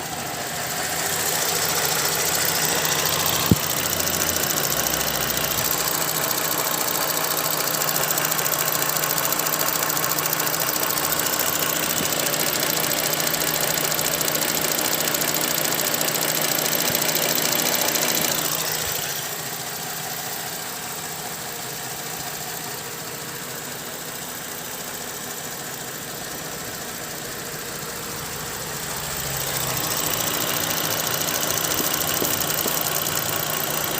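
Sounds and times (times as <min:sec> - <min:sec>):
car engine idling with ticking: 0:00.0 - 0:33.9.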